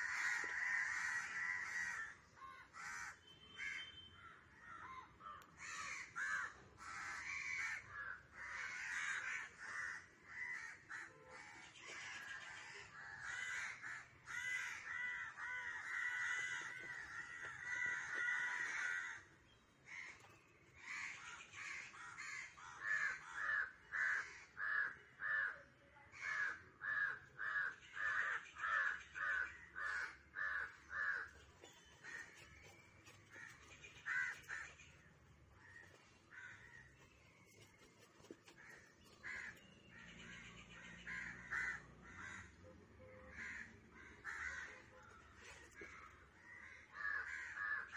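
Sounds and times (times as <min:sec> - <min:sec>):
crows cawing: 0:00.0 - 0:37.4, 0:38.1 - 0:47.9.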